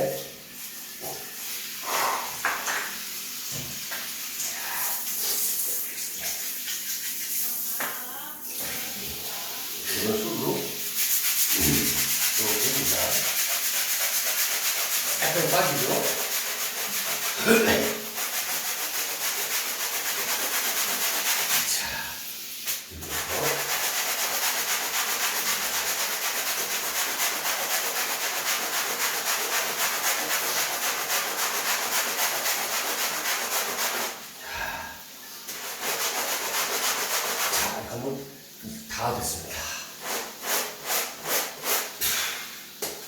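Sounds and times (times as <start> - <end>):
brush scrubbing wet cloth: 0.0 - 7.8, 8.4 - 38.2, 39.0 - 42.0.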